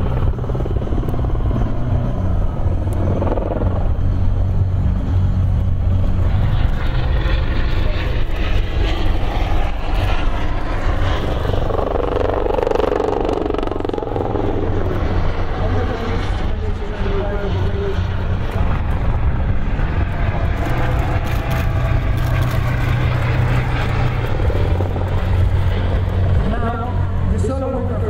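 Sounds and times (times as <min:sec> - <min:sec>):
helicopter rotor chop: 0:00.0 - 0:28.0
turbine hum: 0:00.0 - 0:28.0.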